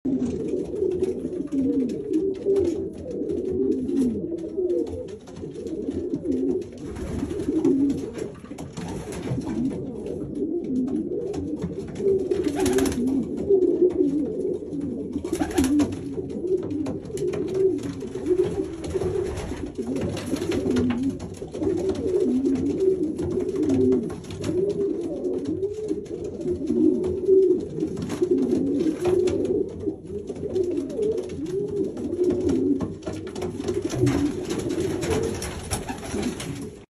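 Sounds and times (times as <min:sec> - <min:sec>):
pigeon cooing: 0:00.1 - 0:08.5, 0:09.3 - 0:36.9.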